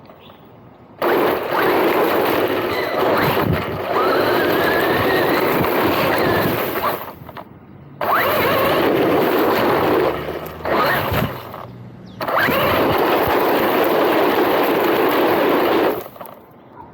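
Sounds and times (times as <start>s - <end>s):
rush of wheels and drivetrain: 0.0s - 16.9s
rc car motor whine: 1.0s - 16.4s.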